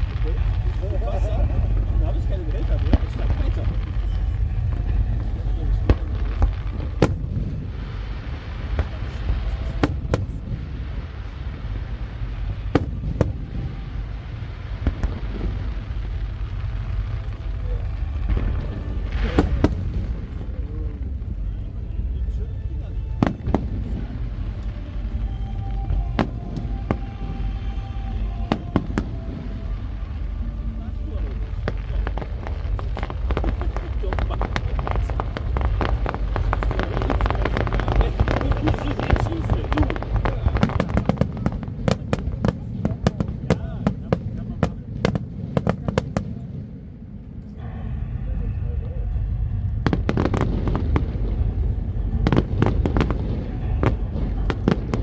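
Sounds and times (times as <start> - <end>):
fireworks bangs: 0.0 - 22.4, 23.1 - 55.0
steady low rumble: 0.0 - 55.0.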